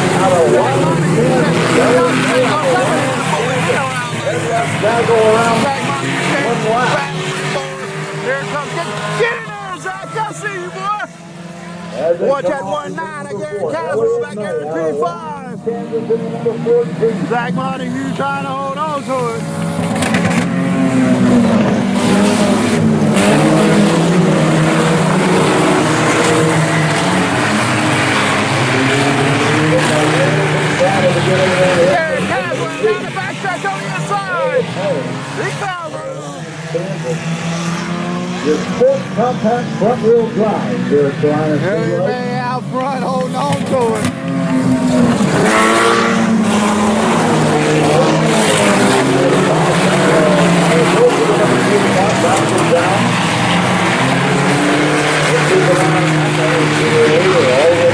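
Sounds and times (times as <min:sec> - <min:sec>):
race car engine revving: 0:00.0 - 0:57.9
race car engines: 0:00.0 - 0:57.9.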